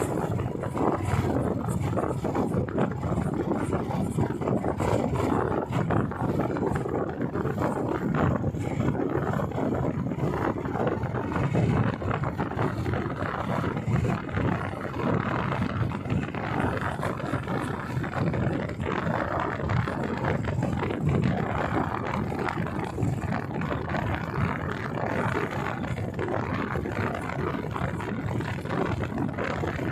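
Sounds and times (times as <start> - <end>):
motorcycle engine running: 0.0 - 29.9
wind buffeting microphone: 0.0 - 29.9.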